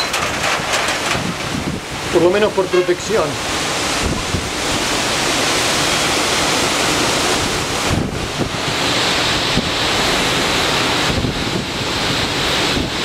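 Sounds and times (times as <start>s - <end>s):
storm wind through trees: 0.0s - 13.0s
wind buffeting microphone: 0.0s - 13.0s.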